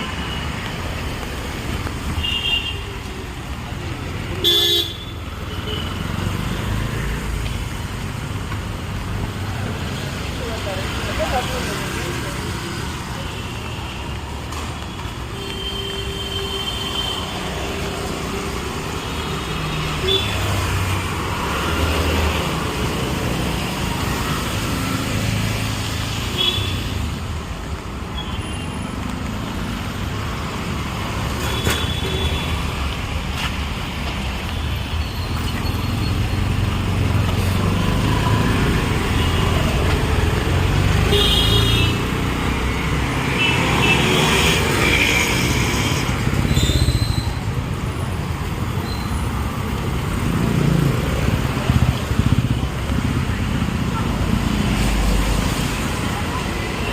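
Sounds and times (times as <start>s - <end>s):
city traffic passing: 0.0s - 56.9s.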